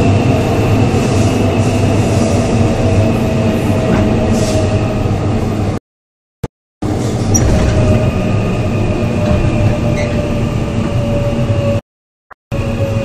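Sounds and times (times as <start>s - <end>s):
train interior rumble: 0.0s - 5.8s, 6.8s - 11.8s.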